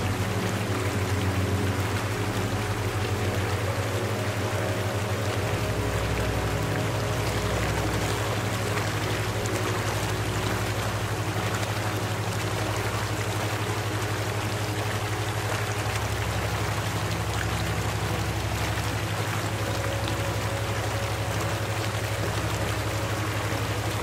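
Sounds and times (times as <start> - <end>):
droning throbbing hum: 0.0 - 24.0
rushing water: 0.0 - 24.0.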